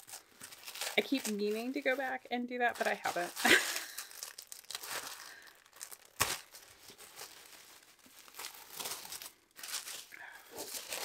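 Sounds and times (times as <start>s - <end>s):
paper ripping: 0.0s - 2.1s, 2.7s - 11.0s
tissue paper rustling: 0.0s - 11.0s.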